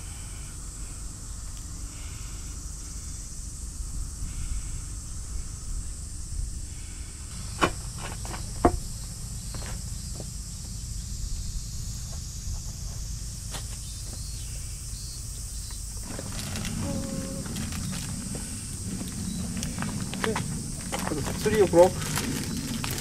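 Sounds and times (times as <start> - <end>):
high-pitched insect drone: 0.0 - 23.0
low uneven rumble: 0.0 - 23.0.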